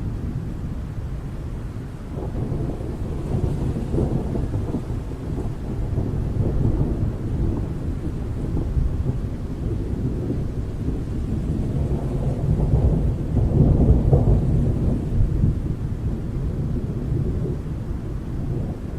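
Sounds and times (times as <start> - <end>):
thunder rumbling: 0.0 - 18.9.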